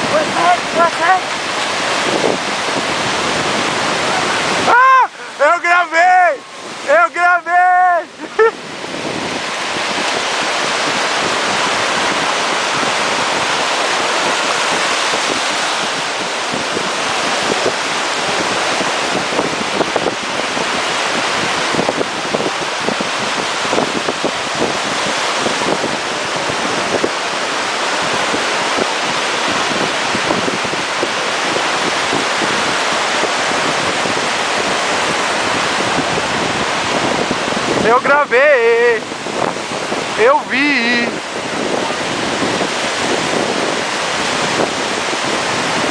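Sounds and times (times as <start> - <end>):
rushing splashing sea water: 0.0 - 45.9
wind buffeting microphone: 0.0 - 45.9.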